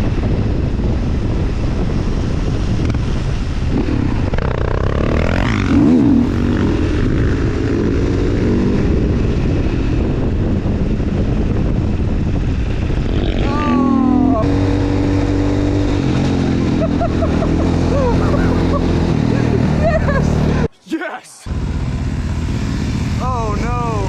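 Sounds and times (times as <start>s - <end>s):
motorcycle engine: 0.0s - 20.7s, 21.5s - 24.0s
wind rush on microphone: 0.0s - 20.7s.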